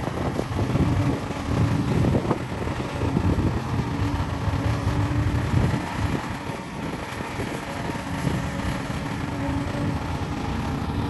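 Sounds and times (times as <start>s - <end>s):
rough rumbling and clatter: 0.0s - 11.0s
small motors and gears running: 0.0s - 11.0s
steady hum: 0.0s - 11.0s.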